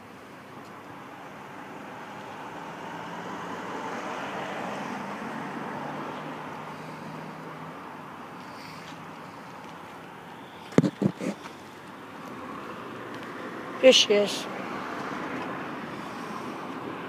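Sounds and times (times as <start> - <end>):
vehicle passing by: 1.0 - 17.0.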